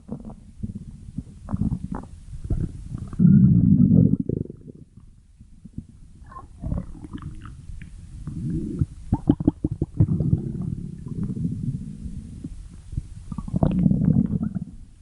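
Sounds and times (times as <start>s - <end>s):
stomach growling: 0.0s - 14.9s.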